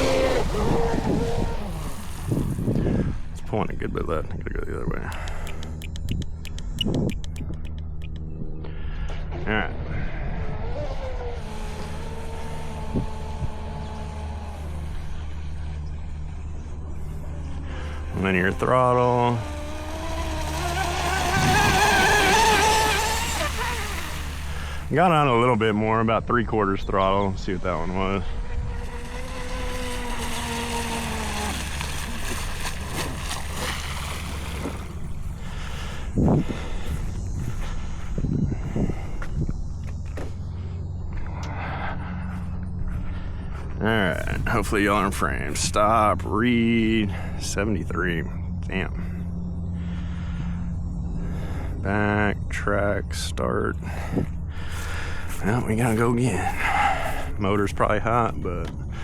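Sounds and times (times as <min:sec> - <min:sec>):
low wind buffet: 0:00.0 - 0:59.0
rc boat motor whining: 0:00.0 - 0:59.0
water: 0:00.0 - 0:59.0
wind: 0:00.0 - 0:59.0.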